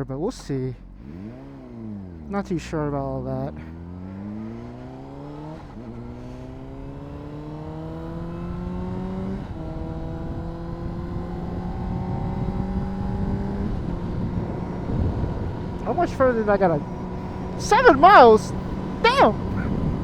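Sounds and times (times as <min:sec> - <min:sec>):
motorcycle engine accelerating: 0:00.8 - 0:20.0.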